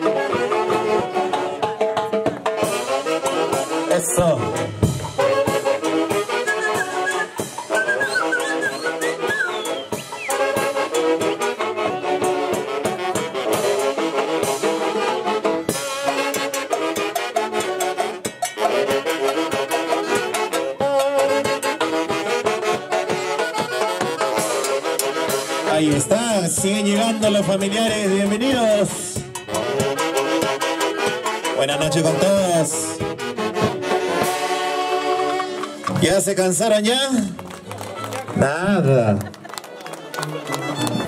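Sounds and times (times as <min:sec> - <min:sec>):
festive dance-band music with horns: 0:00.0 - 0:41.0.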